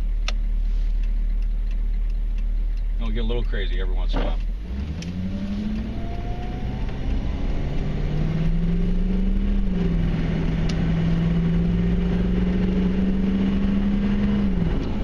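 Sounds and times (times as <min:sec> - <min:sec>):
diesel truck engine accelerating: 0:00.0 - 0:15.0.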